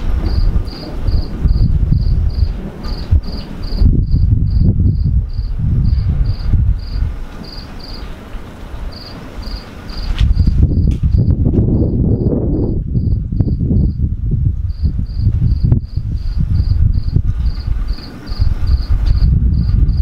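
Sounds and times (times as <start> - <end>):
loud low rumble: 0.0 - 7.2, 10.3 - 20.0
cricket chirping: 0.2 - 8.1, 8.9 - 14.1, 14.7 - 20.0.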